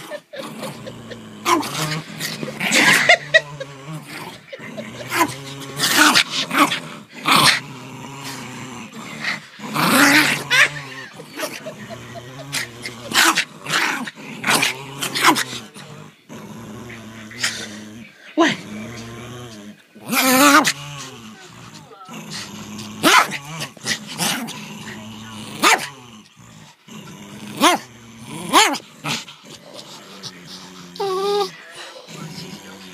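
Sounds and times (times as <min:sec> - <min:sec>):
small dog play-growling: 0:00.0 - 0:32.9.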